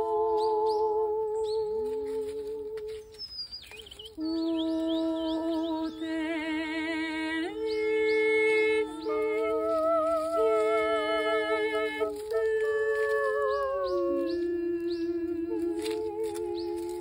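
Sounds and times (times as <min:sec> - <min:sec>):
women singing in harmony: 0:00.0 - 0:03.1, 0:04.2 - 0:17.0.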